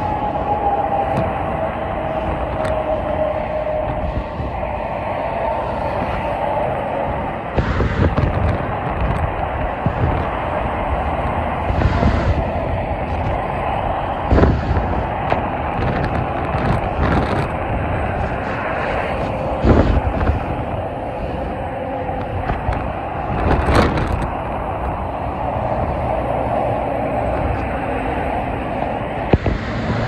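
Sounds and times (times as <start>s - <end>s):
heavy freeway traffic: 0.0s - 30.0s.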